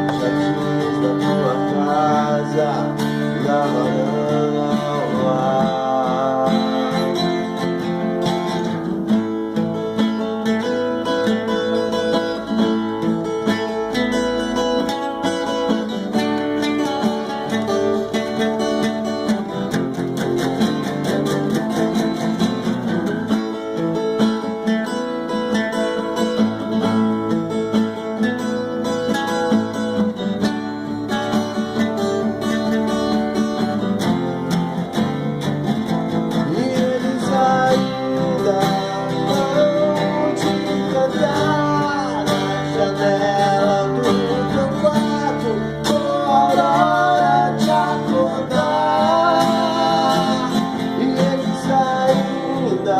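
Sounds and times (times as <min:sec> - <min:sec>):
acoustic guitar playing: 0:00.0 - 0:52.9.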